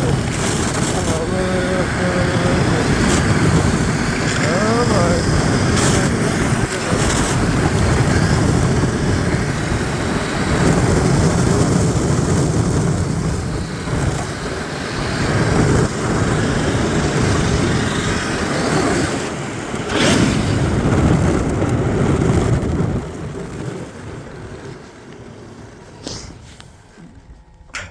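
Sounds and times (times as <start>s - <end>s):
sled runners rumbling on snow: 0.0s - 27.9s
wind buffeting microphone: 0.0s - 27.9s.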